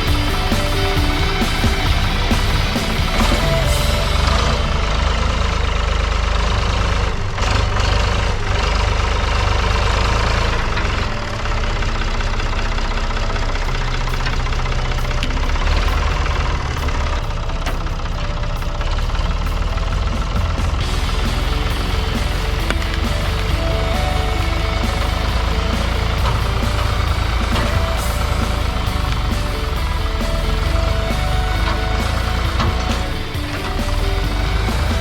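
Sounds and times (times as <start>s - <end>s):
backhoe engine running: 0.0s - 35.0s.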